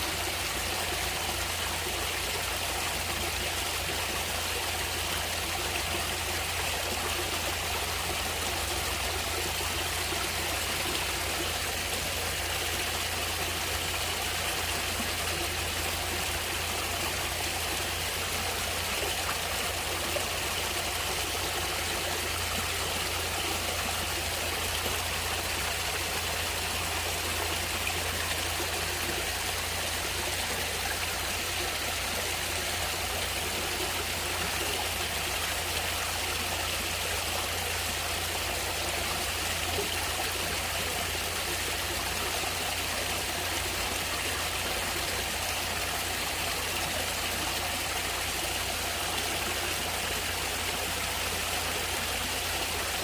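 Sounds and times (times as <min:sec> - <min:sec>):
stream water running: 0:00.0 - 0:53.0.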